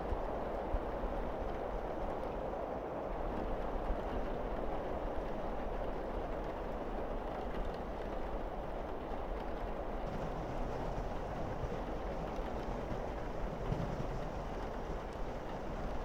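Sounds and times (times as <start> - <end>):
faint ticks of raindrops: 0.0 - 16.0
rain on roof and windows: 0.0 - 16.0.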